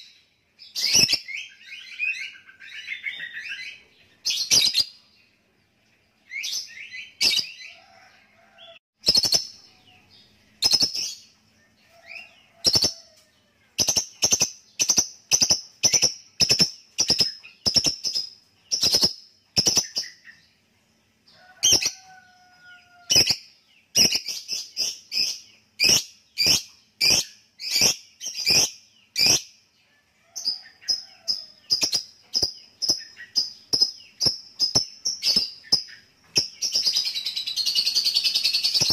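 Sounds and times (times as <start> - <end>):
lovebird chirping: 0.0 - 5.4, 9.0 - 20.6, 21.4 - 29.6, 30.2 - 38.9.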